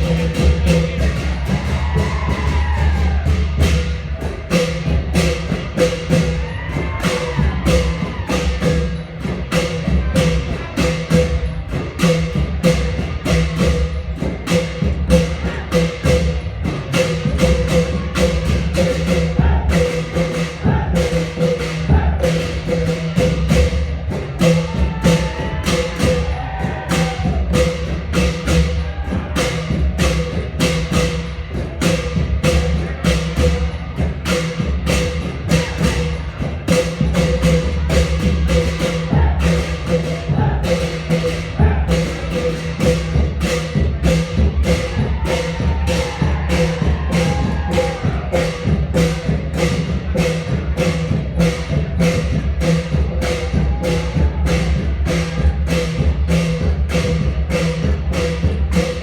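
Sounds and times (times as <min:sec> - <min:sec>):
deep drum beats: 0:00.0 - 0:59.0
metal percussion strokes: 0:00.0 - 0:59.0.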